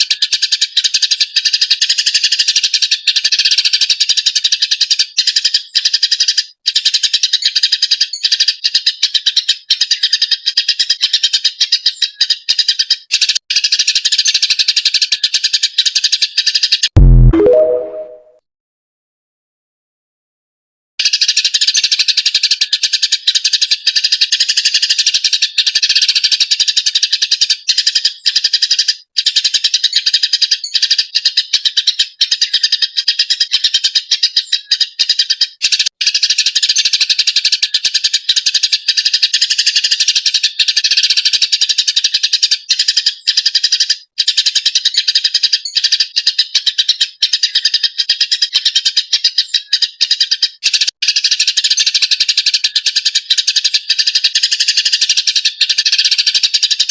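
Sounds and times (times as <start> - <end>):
sparrow chattering rapidly: 0.0 - 16.8, 21.0 - 56.9.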